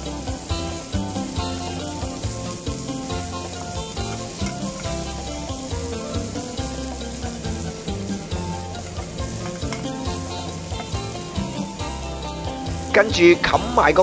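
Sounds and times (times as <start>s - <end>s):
patties sizzling in oil: 0.0s - 14.0s
upbeat background music: 0.0s - 14.0s
spatula scraping a pan: 0.2s - 12.6s.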